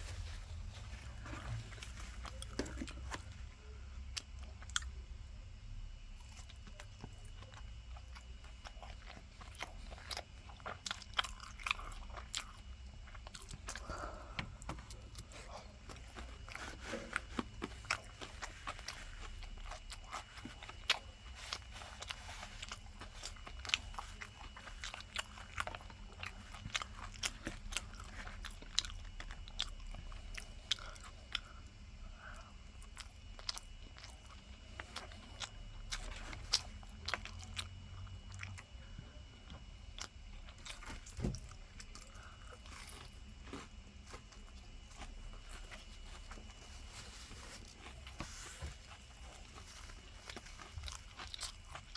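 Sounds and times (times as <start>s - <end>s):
crunchy chewing: 0.0s - 51.9s.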